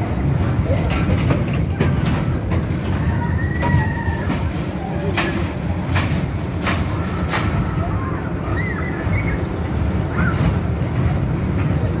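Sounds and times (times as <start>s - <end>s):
train ride rumble: 0.0s - 12.0s
wheels clacking on rail joints: 0.0s - 12.0s.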